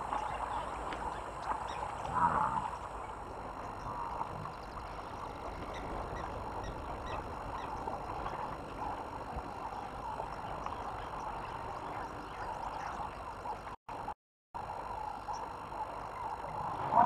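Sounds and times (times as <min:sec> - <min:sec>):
faint bird calls: 0:00.0 - 0:13.8.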